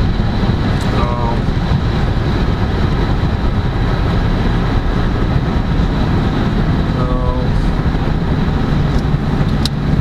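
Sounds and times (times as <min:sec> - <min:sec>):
car cabin road noise: 0:00.0 - 0:10.0
tyres on wet road: 0:00.0 - 0:10.0.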